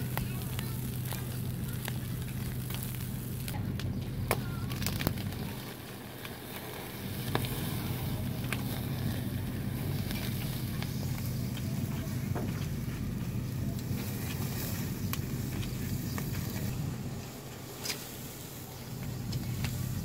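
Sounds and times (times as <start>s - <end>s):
charcoal crackling and popping: 0.0s - 20.0s
steady low hum: 0.0s - 20.0s.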